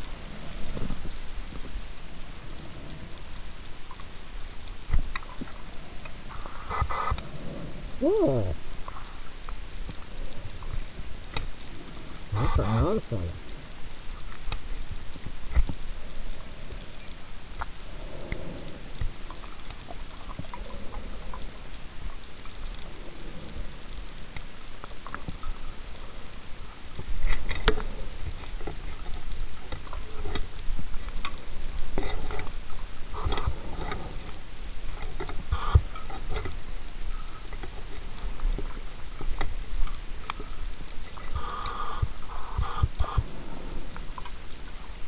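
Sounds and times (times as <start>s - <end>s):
underwater water noise: 0.0s - 45.0s.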